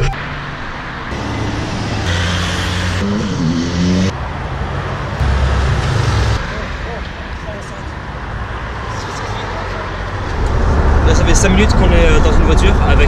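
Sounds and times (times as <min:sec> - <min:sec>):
cars driving past: 0:00.1 - 0:13.0.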